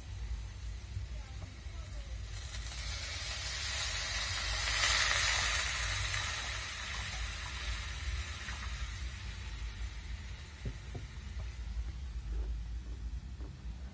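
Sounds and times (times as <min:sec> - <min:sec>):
water sizzling in hot oil: 0:00.0 - 0:12.3.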